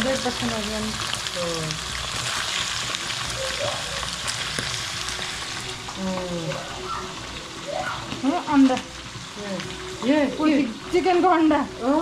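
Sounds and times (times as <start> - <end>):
food sizzling in hot fat: 0.0 - 12.0.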